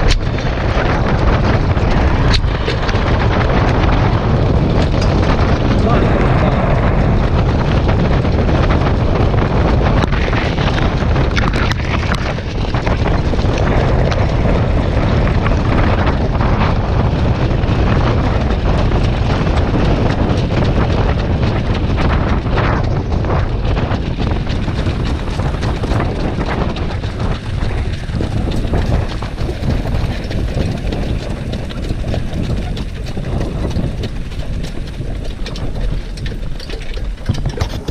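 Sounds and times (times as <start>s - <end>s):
hooves and wheels rumbling on dirt: 0.0s - 37.9s
wind on microphone: 0.0s - 37.9s.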